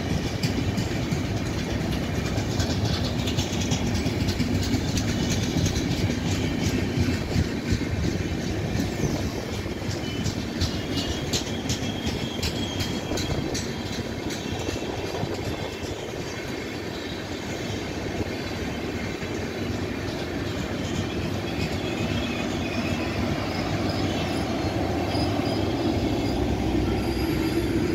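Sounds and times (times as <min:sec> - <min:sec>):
train wheels clicking over rail joints: 0:00.0 - 0:27.9.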